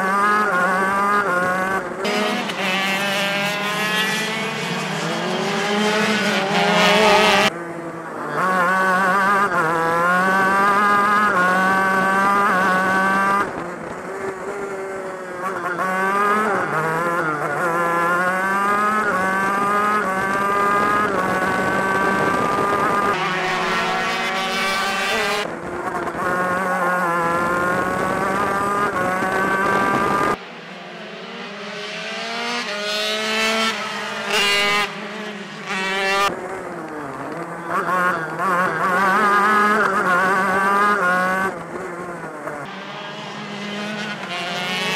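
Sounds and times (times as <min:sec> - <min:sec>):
kart engines racing: 0:00.0 - 0:44.9.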